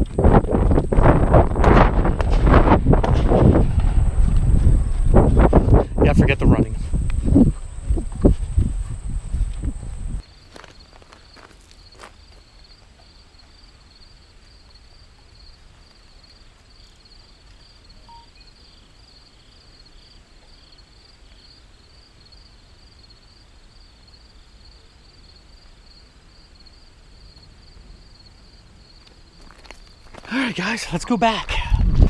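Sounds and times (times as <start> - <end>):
insects trilling: 3.9 - 31.5.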